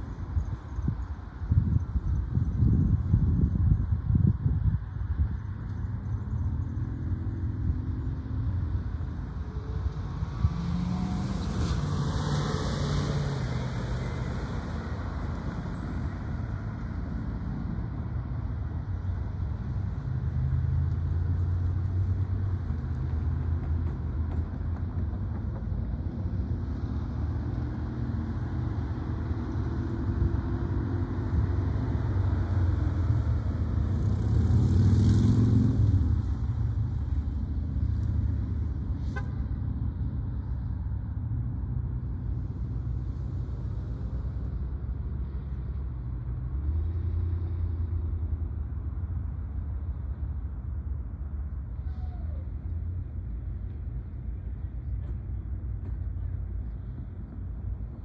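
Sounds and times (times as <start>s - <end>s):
diesel locomotive engine rumbling: 0.0s - 11.7s, 13.3s - 34.4s, 35.8s - 58.0s
car passing: 6.0s - 58.0s.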